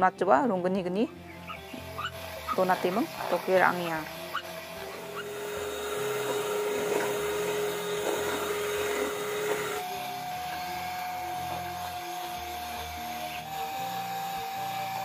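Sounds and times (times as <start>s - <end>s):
electric hand mixer whirring: 1.1s - 15.0s.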